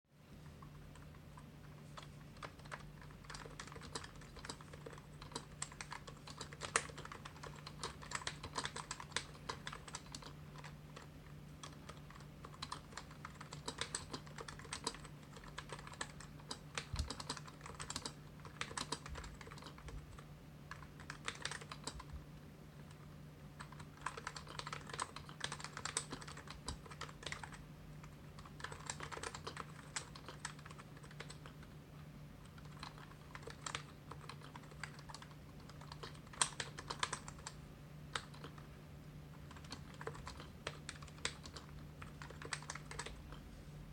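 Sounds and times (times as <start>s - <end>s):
typing on a keyboard: 0.6s - 22.2s, 22.9s - 31.8s, 32.4s - 38.7s, 39.3s - 43.4s.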